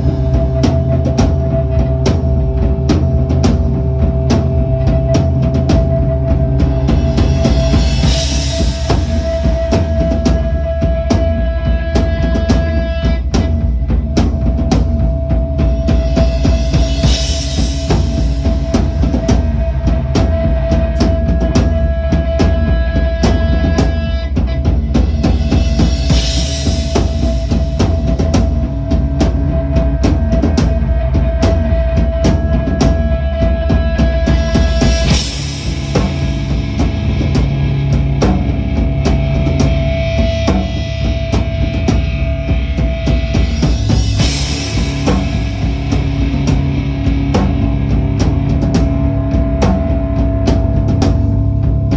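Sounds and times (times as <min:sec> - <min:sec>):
drum kit driving beat: 0:00.0 - 0:51.9
rock guitar: 0:00.0 - 0:51.9.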